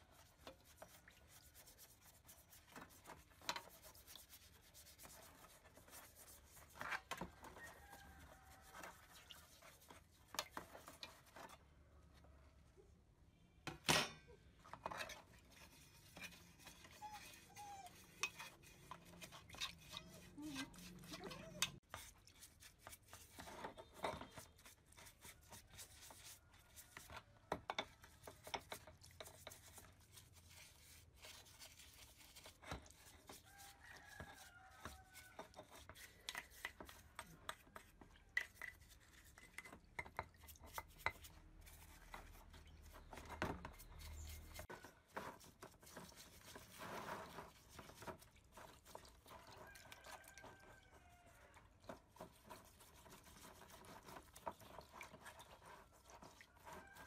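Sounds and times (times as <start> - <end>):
scrubbing scrapes on metal: 0.0 - 11.6, 14.7 - 57.0
light sloshing liquid in basin: 0.0 - 12.4, 14.3 - 57.0.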